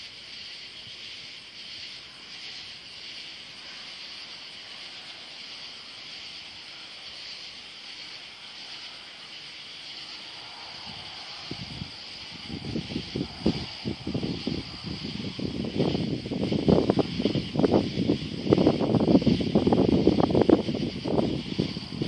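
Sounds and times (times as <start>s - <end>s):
night insect chorus: 0.0s - 22.0s.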